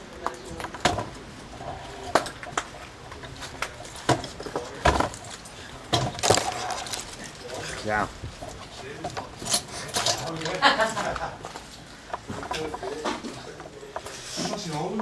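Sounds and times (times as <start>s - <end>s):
knocks and clinks among debris: 1.8s - 15.0s.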